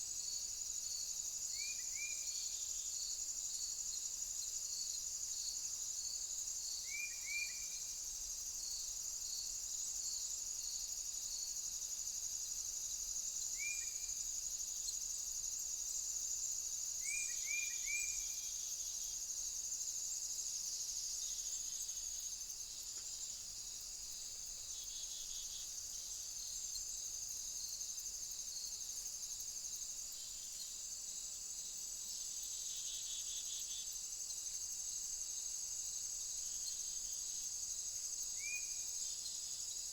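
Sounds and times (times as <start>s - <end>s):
crickets and insects chorus: 0.0s - 39.9s
pulsing insect chirp: 0.2s - 39.9s.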